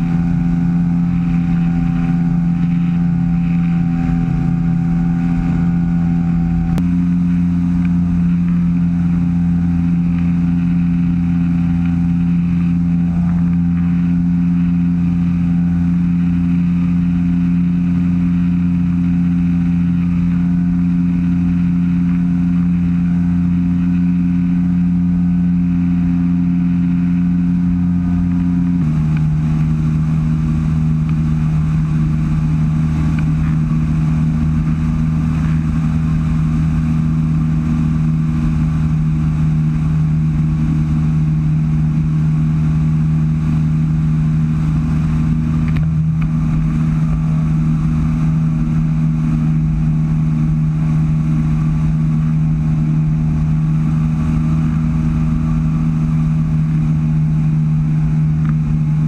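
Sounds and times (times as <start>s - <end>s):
aircraft engine and propeller droning: 0.0s - 59.0s.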